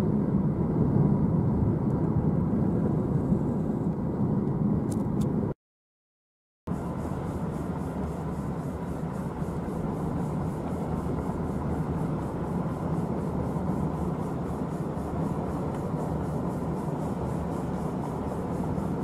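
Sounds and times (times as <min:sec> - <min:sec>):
car engine noise: 0:00.0 - 0:05.6, 0:06.7 - 0:19.0.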